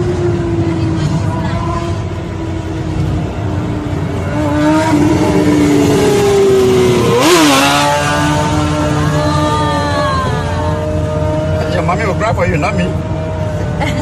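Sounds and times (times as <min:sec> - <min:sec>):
car road and engine rumble: 0:00.0 - 0:14.0
motorcycle engine revving: 0:00.0 - 0:14.0.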